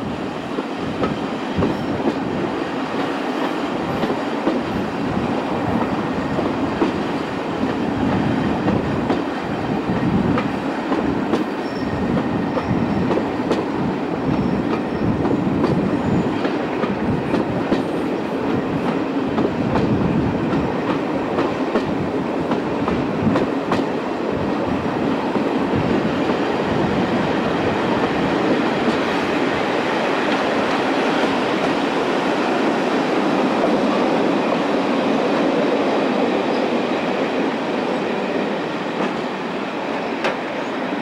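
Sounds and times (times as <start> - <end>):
wheels rumbling on rail: 0.0 - 41.0
rail joint clicks: 0.3 - 4.9, 5.8 - 32.9, 38.6 - 41.0.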